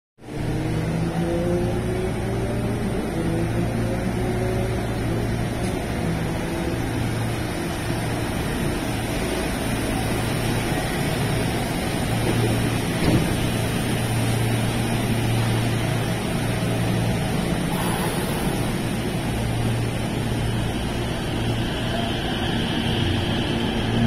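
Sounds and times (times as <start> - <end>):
train equipment humming: 0.4 - 24.0.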